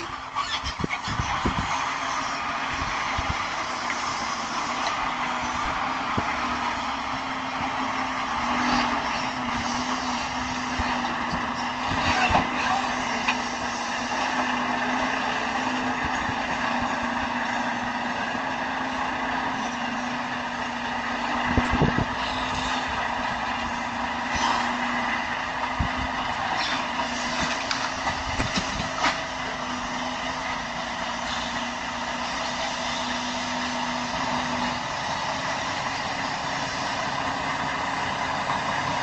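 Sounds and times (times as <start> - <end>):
motor vehicle running: 0.0 - 39.0.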